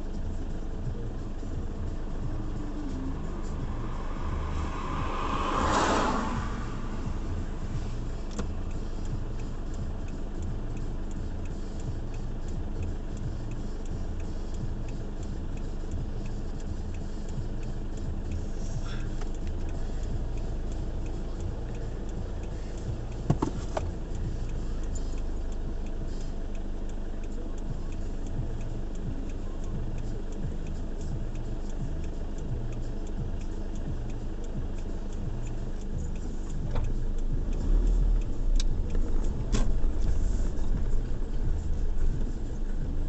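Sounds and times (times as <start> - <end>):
car engine idling: 0.0 - 43.0
turn signal ticking: 0.0 - 43.0.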